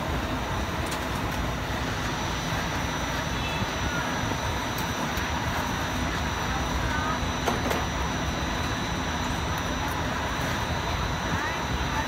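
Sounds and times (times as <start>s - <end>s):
indistinct crowd chatter: 0.0s - 12.0s.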